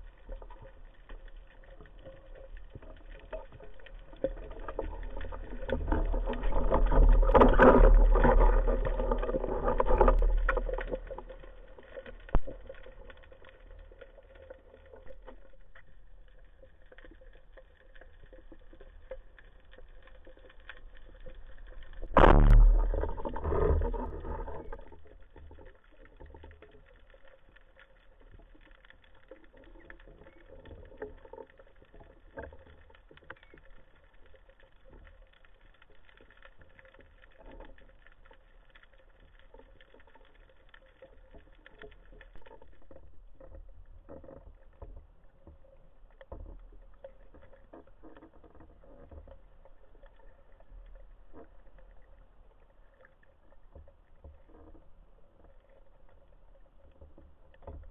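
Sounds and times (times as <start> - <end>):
soft water hiss: 0.0 - 57.9
underwater crackle of clicks: 0.0 - 57.9.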